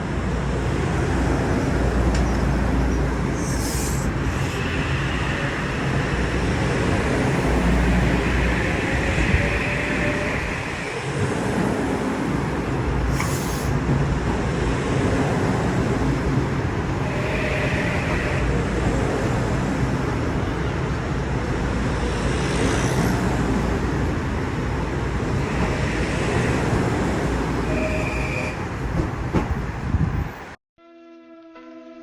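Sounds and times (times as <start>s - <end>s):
train rolling past: 0.0s - 30.6s.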